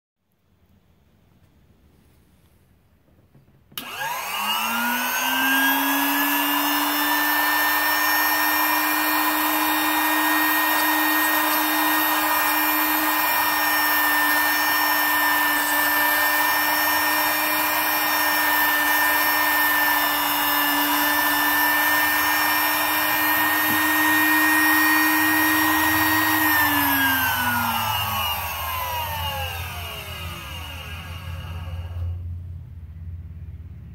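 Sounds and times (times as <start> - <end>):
drill press motor whine: 3.8 - 32.3.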